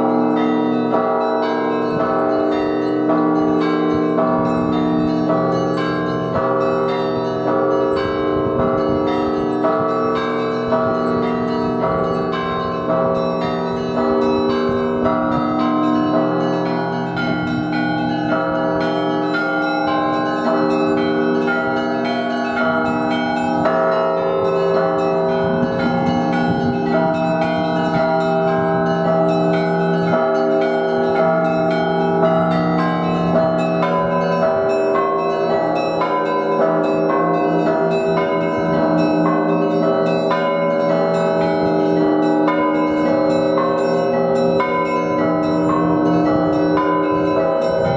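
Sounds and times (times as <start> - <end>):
deep bass bells ringing: 0.0 - 47.9
small high bells ringing: 0.0 - 47.9.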